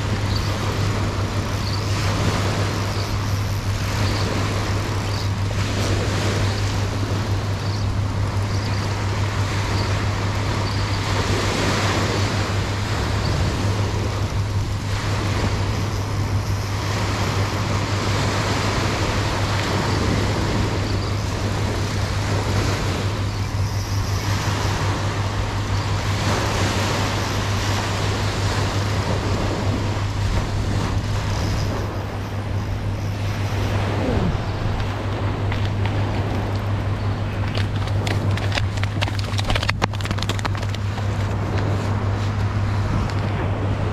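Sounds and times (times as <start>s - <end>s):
small waves breaking on sand: 0.0s - 43.9s
steady low hum: 0.0s - 43.9s.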